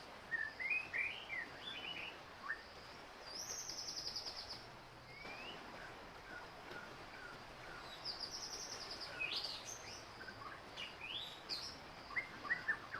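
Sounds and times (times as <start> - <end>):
steady background hiss: 0.0 - 12.9
small birds chirping: 0.2 - 12.9.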